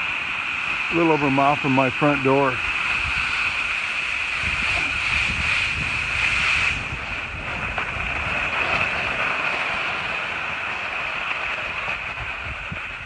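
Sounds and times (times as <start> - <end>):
skis sliding over snow: 0.0 - 13.0
wind buffeting microphone: 0.0 - 13.0.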